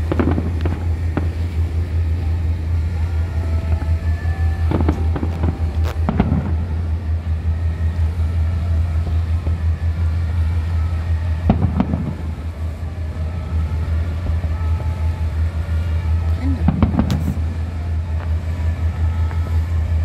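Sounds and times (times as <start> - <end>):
firework bangs: 0.0 - 20.0
ship engine drone: 0.0 - 20.0.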